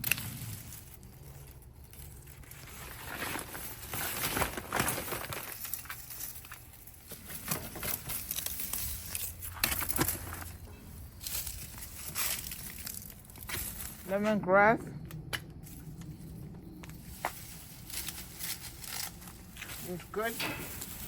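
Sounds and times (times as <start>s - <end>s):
plant foliage rustling: 0.0s - 14.8s, 15.6s - 21.0s.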